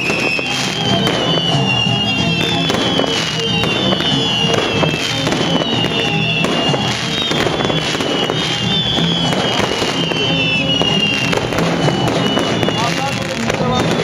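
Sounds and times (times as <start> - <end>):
fireworks crackling: 0.0 - 14.0
music: 0.0 - 14.0
whistling fireworks: 0.0 - 14.0.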